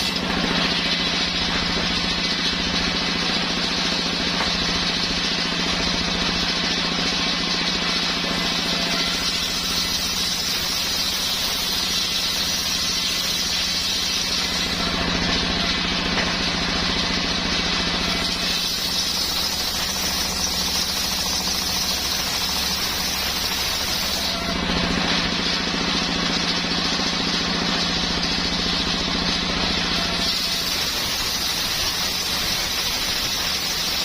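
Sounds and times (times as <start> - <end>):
saw blade cutting wood: 0.0 - 34.0.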